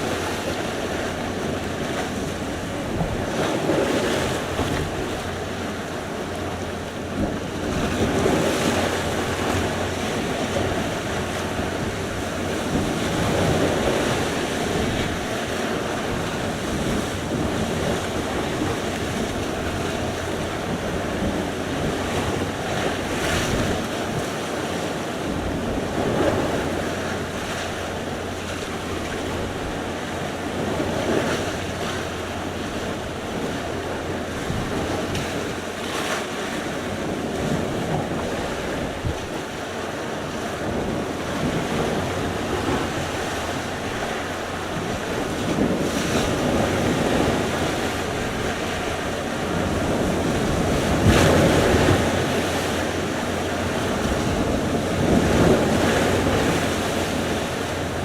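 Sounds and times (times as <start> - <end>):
waves breaking on shore: 0.0 - 58.0
wind buffeting microphone: 0.0 - 58.0.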